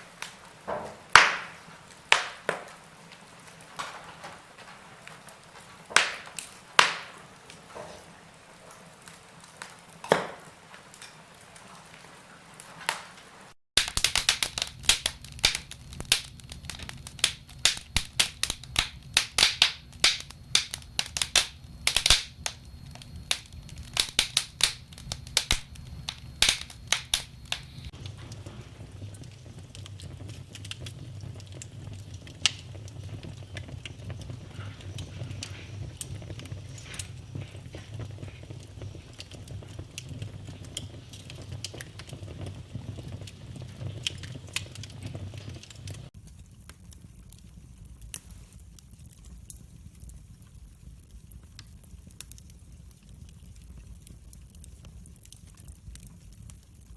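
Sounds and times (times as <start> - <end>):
wood fire crackling and snapping: 0.0 - 56.9.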